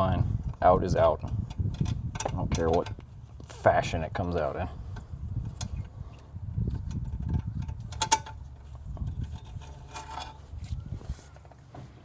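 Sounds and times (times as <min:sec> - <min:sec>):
hand tools scraping metal: 0:00.0 - 0:11.6.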